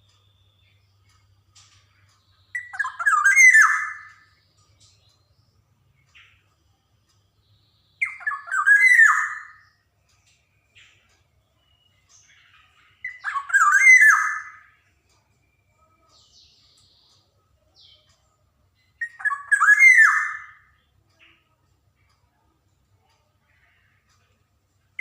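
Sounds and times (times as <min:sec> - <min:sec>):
bird singing fluty notes: 0:00.0 - 0:22.2.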